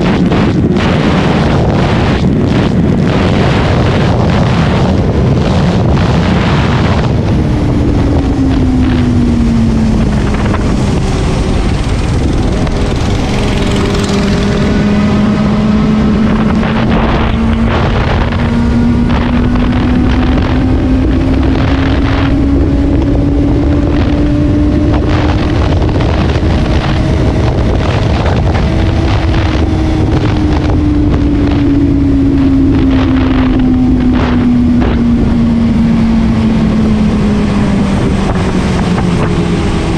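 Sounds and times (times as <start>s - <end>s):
motorcycle engine accelerating: 0.0s - 39.9s
wind buffeting microphone: 0.0s - 39.9s.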